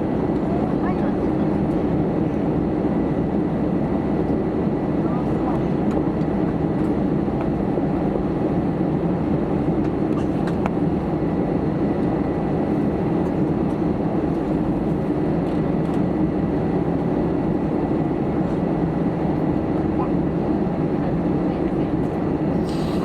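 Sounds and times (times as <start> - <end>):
aircraft cabin hum and rush: 0.0 - 23.0.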